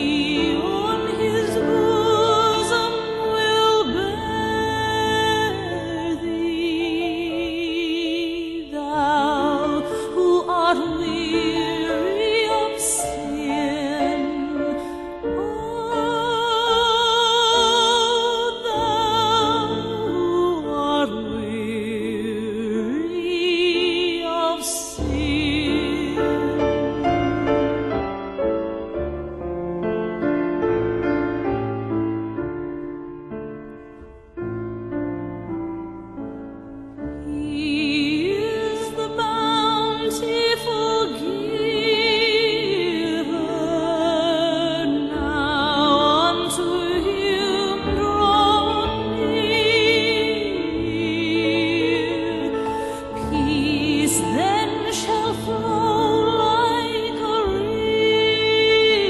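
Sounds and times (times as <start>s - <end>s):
piano playing slow chords: 0.0s - 59.0s
slow gospel hymn music: 0.0s - 59.0s.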